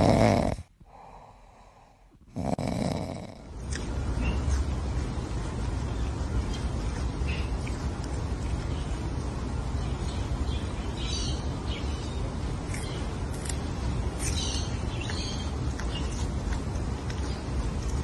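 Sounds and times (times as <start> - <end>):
animal chewing a leaf: 2.4 - 18.0.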